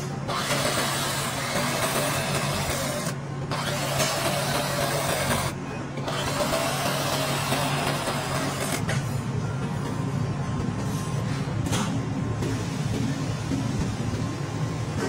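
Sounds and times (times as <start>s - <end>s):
mechanical whir with low hum: 0.0s - 15.0s.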